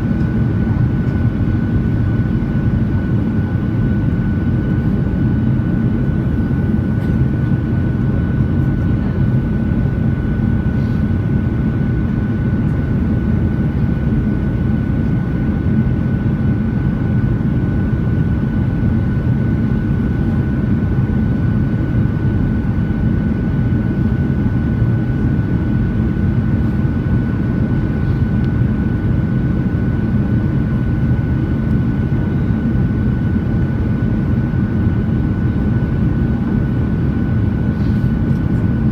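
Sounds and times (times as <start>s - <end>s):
aircraft cabin drone: 0.0s - 38.9s.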